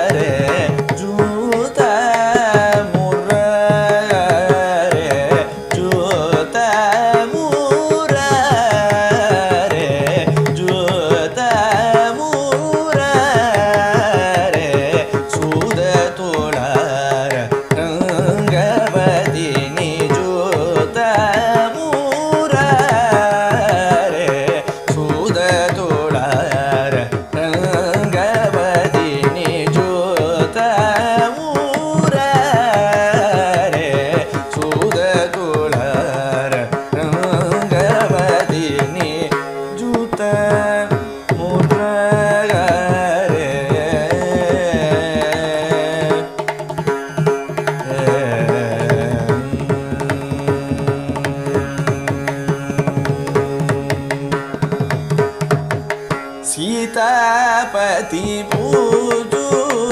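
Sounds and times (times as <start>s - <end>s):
man singing: 0.0s - 59.9s.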